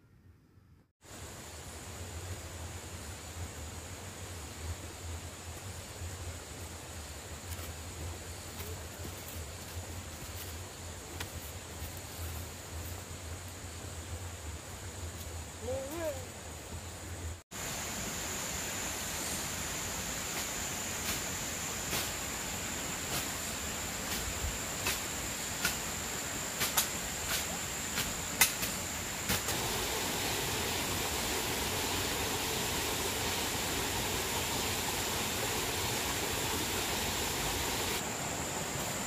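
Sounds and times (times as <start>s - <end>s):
steady hiss with high whine: 1.0s - 39.0s.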